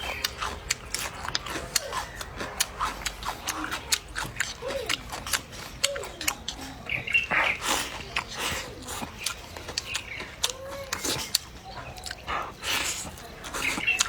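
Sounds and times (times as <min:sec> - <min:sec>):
crunchy chewing: 0:00.0 - 0:14.0
mouth smacks: 0:00.0 - 0:14.0.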